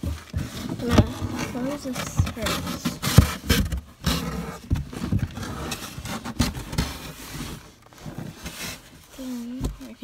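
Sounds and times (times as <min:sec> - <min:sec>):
scraping rustles: 0:00.0 - 0:10.0.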